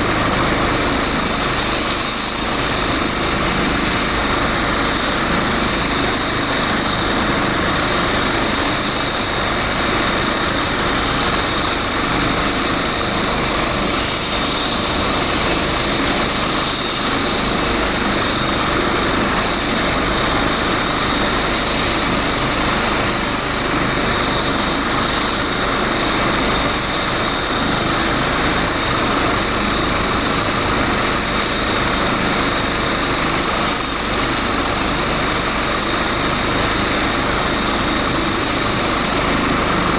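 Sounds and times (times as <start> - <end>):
helicopter running: 0.0 - 39.9
high turbine whine: 0.0 - 39.9.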